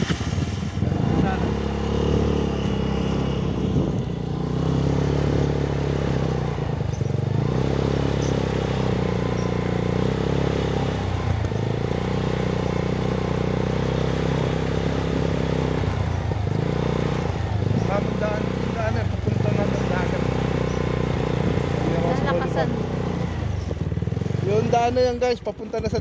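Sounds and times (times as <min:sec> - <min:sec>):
small motorcycle engine running: 0:00.0 - 0:26.0.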